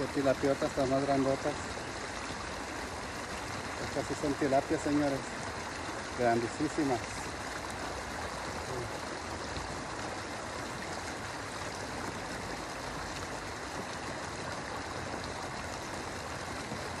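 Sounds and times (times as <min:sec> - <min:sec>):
river water rushing over ledge: 0:00.0 - 0:17.0.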